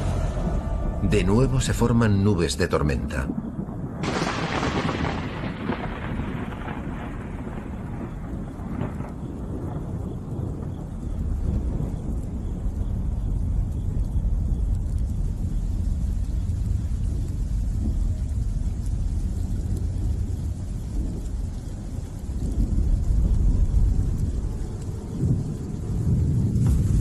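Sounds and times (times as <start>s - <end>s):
low rumble of thunder: 0.0s - 27.0s.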